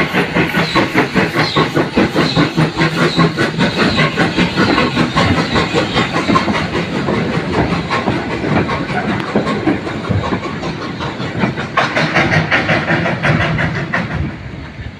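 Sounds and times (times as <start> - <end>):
train wheels clattering on rails: 0.0 - 14.9.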